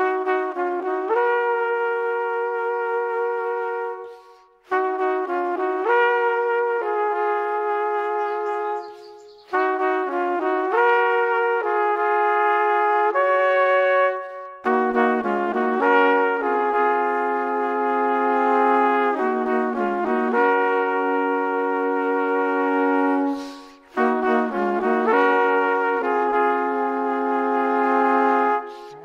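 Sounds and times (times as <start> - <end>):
trumpet-like brass melody: 0.0 - 29.0.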